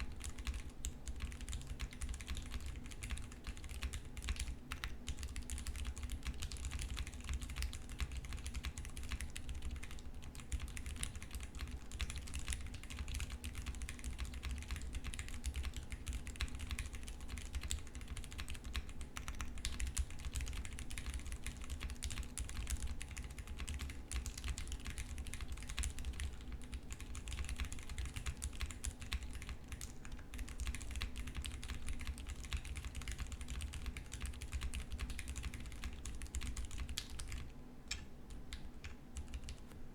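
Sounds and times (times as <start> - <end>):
mechanical keyboard typing: 0.0 - 39.6.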